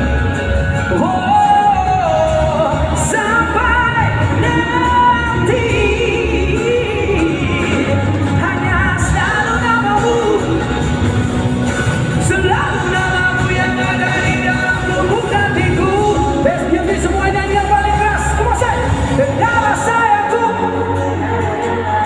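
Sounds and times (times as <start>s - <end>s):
live pop band playing: 0.0s - 22.0s
man singing: 0.0s - 22.0s.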